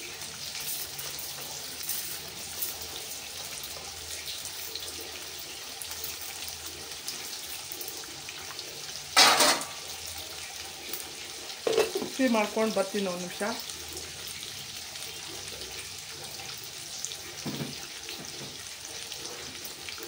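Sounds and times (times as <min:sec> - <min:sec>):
eggplant sizzling in oil: 0:00.0 - 0:20.0.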